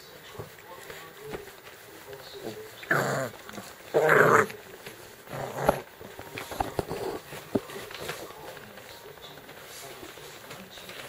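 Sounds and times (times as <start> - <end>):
puppies scuffling: 0.0 - 11.0.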